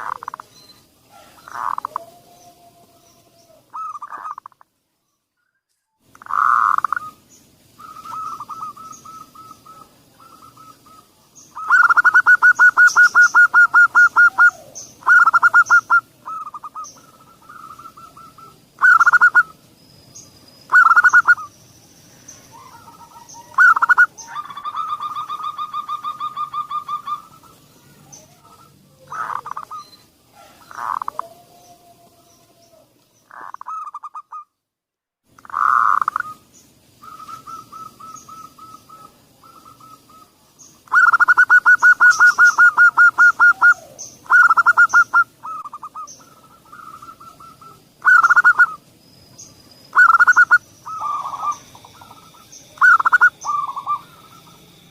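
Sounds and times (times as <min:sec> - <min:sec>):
dove cooing and trilling: 0:00.0 - 0:04.6, 0:06.2 - 0:19.6, 0:20.7 - 0:21.5, 0:22.3 - 0:34.4, 0:35.4 - 0:48.8, 0:49.9 - 0:54.9
faint high bird chirps: 0:00.0 - 0:34.6, 0:35.4 - 0:54.9.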